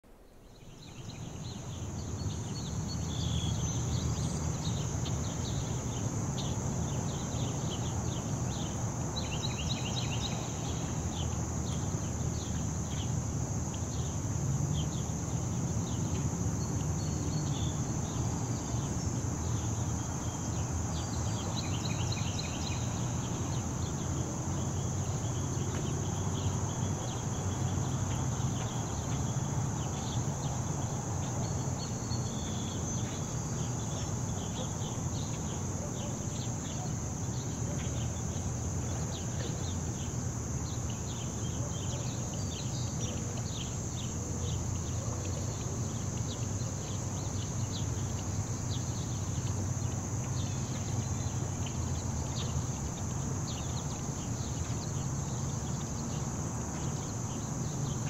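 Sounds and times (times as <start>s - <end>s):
high insect trill: 0.3s - 58.0s.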